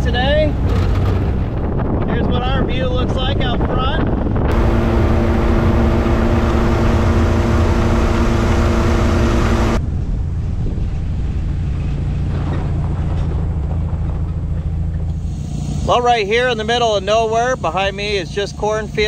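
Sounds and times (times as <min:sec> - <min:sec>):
wind noise: 0:00.0 - 0:16.1
car engine and exhaust drone: 0:00.0 - 0:19.0.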